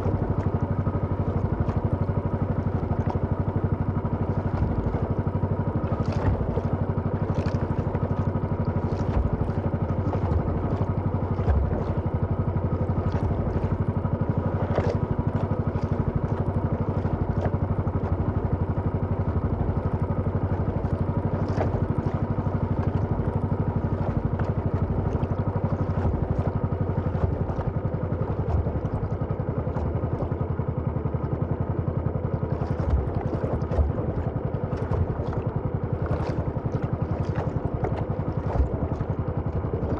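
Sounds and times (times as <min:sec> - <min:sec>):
small boat engine running: 0:00.0 - 0:39.9.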